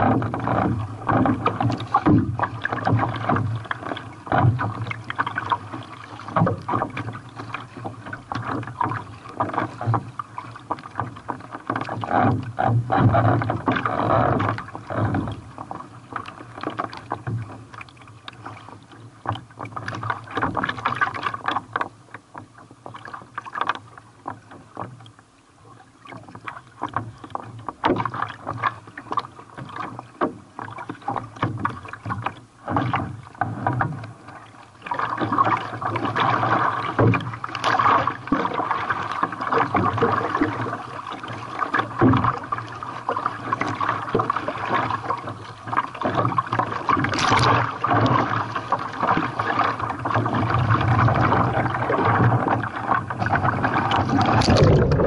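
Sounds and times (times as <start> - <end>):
water splashing around kayak: 0.0 - 55.0.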